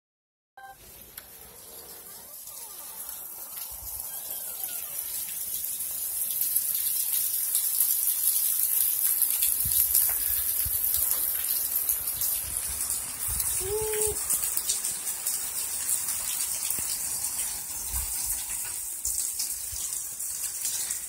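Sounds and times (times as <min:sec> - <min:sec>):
heavy rain on paving: 0:00.8 - 0:21.0.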